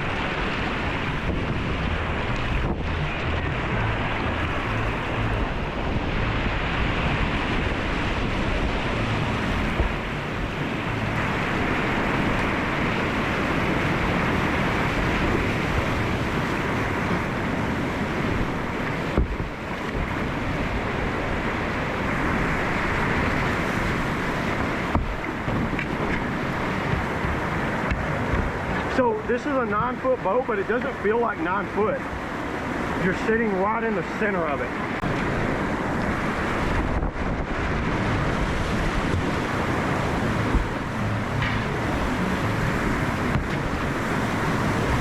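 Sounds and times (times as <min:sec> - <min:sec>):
whitewater rapids rushing: 0:00.0 - 0:45.0
wind buffeting microphone: 0:00.0 - 0:45.0.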